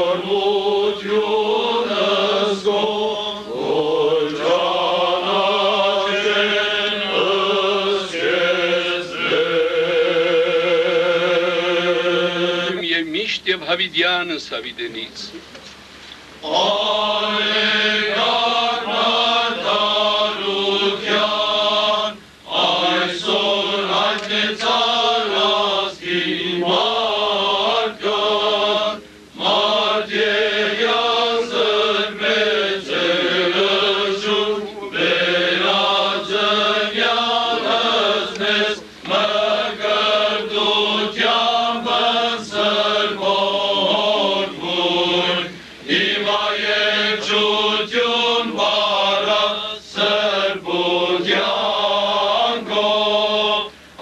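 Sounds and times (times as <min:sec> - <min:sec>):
men singing a slow chant: 0:00.0 - 0:12.8, 0:16.4 - 0:54.0.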